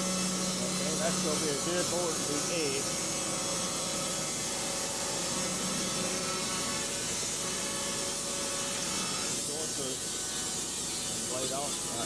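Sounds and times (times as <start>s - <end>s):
band saw cutting log: 0.0s - 12.0s.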